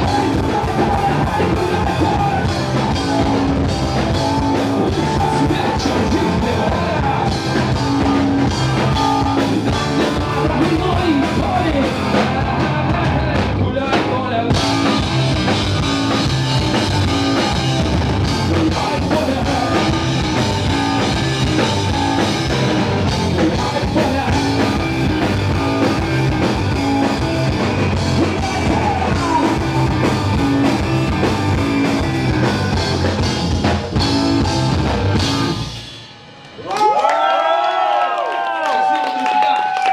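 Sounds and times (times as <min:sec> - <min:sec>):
vocals: 0:00.0 - 0:33.4
rock band playing: 0:00.0 - 0:36.7
drum kit: 0:00.0 - 0:36.8.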